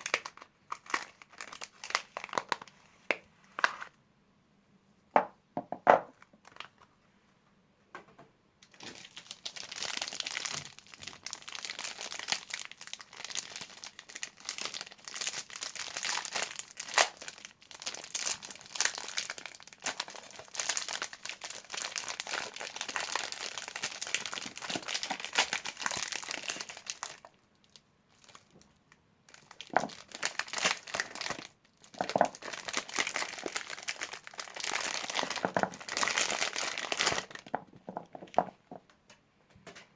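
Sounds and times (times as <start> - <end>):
wrappers crinkling: 0.0 - 3.9, 8.7 - 28.6, 29.3 - 38.5.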